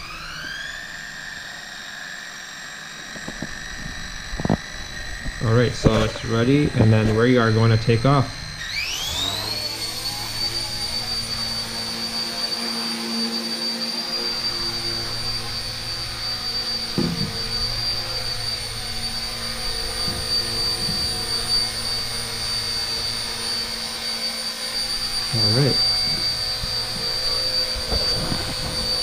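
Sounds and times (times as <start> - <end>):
rc helicopter rotor whine: 0.0 - 29.0.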